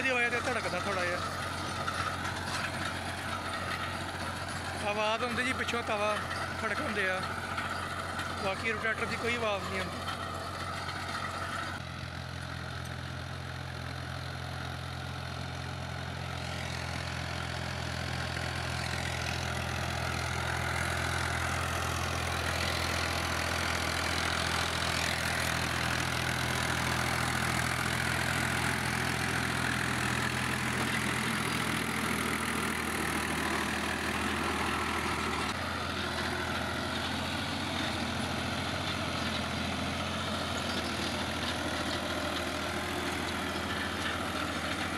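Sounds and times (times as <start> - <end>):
rotary tiller working soil: 0.0 - 44.9
tractor diesel engine under load: 0.0 - 44.9.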